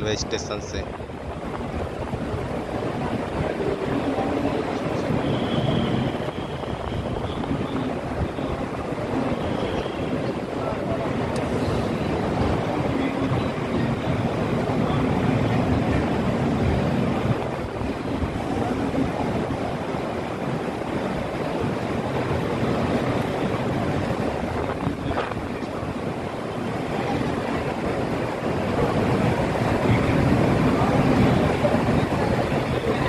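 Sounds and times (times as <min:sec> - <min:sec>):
train coach rumbling: 0:00.0 - 0:33.0.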